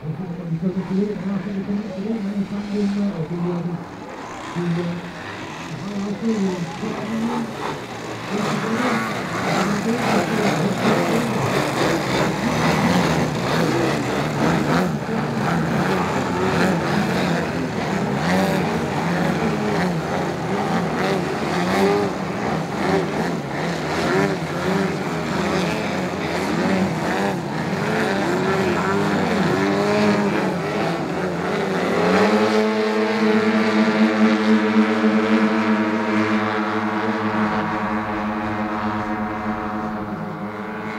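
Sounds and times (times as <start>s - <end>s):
model aeroplane engines: 0.0s - 40.9s.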